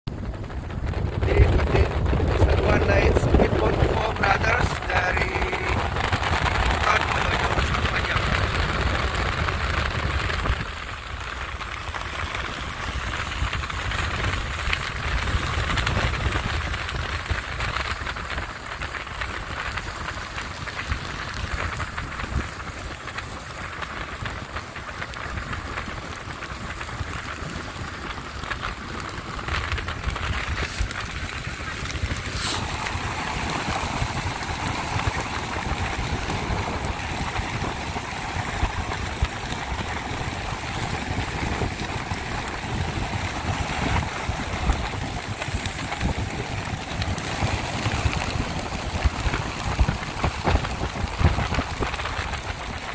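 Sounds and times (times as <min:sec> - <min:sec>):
boat engine rumble: 0:00.1 - 0:52.9
water and wind rushing: 0:00.1 - 0:52.9.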